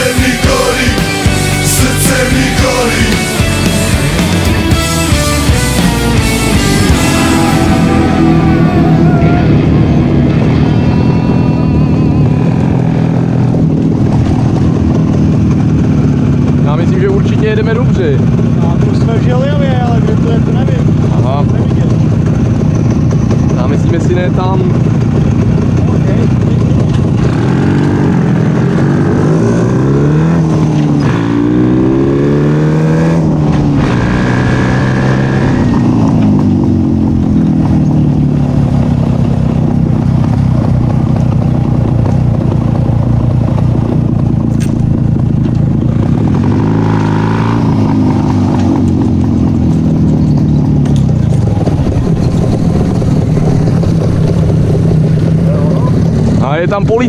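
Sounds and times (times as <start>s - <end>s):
two-stroke motorcycle engines: 0.0s - 57.0s.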